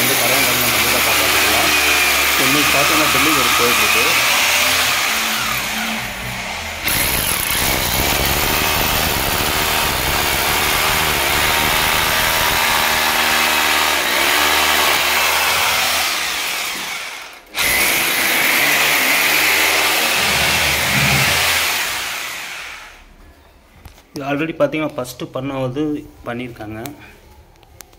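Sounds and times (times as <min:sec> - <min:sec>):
electric drill boring into floor: 0:00.0 - 0:22.9.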